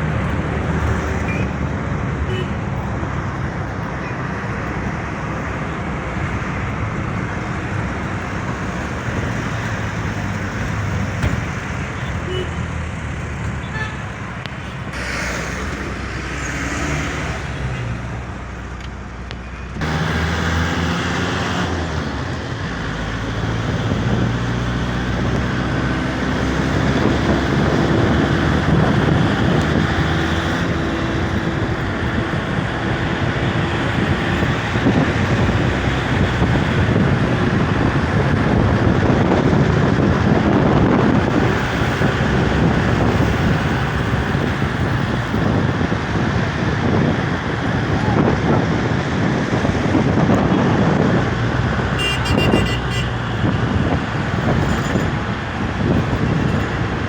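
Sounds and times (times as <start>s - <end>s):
vehicle engine accelerating: 0.0s - 18.8s, 19.7s - 57.0s
road traffic: 0.0s - 57.0s
wind noise on microphone: 0.0s - 57.0s.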